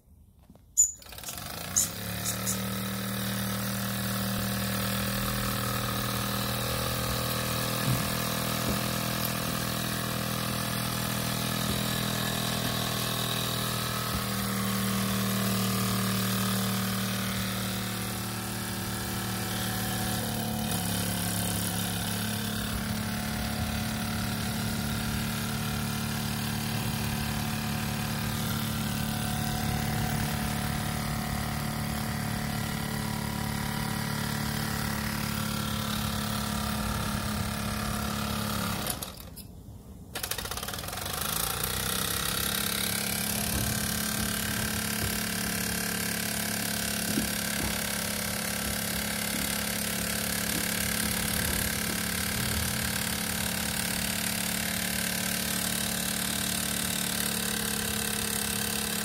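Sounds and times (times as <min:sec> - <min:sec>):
toy steam engine running: 0:00.8 - 0:39.3, 0:40.2 - 0:59.0.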